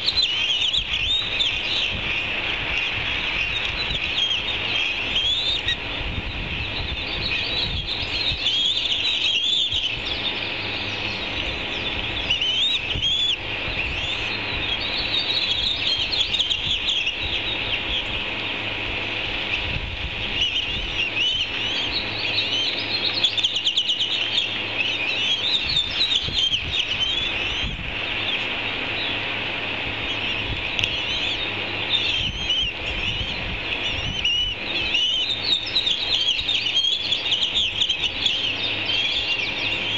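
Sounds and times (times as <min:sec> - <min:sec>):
ospreys chirping: 0:00.0 - 0:39.9.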